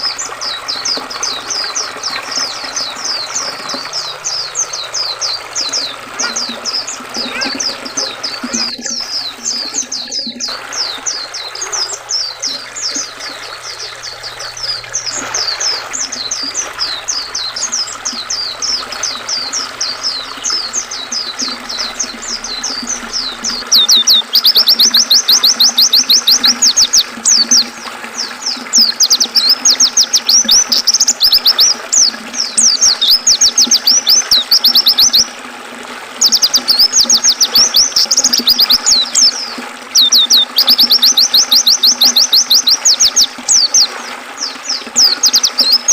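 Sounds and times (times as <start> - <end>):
birds chirping and trilling: 0.0 - 35.4, 36.2 - 45.9.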